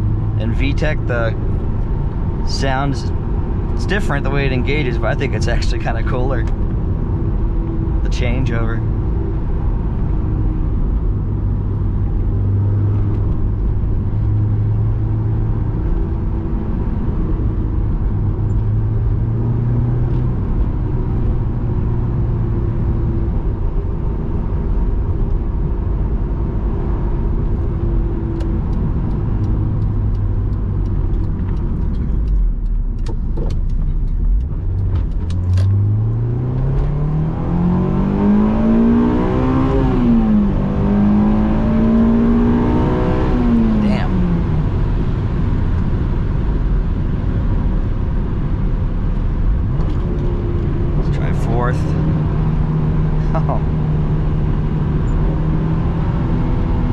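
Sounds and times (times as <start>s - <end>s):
car engine heard from cabin: 0.0s - 56.9s.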